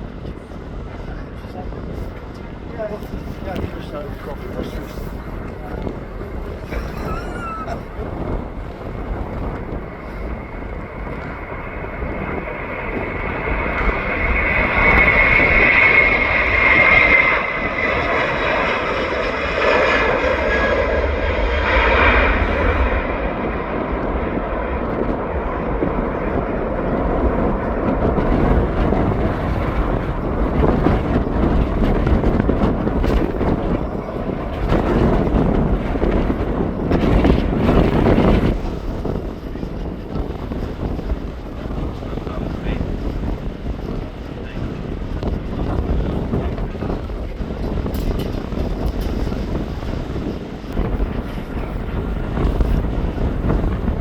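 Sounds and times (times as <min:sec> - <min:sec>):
jet engines passing by: 0:00.0 - 0:54.0.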